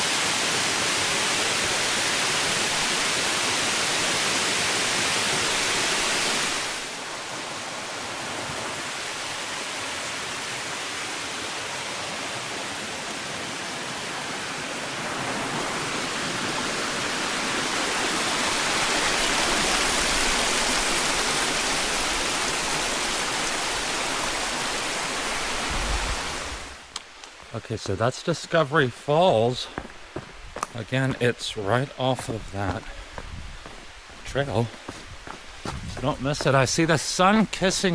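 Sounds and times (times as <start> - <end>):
waterfall rushing water: 0.0 - 27.0, 27.8 - 37.9.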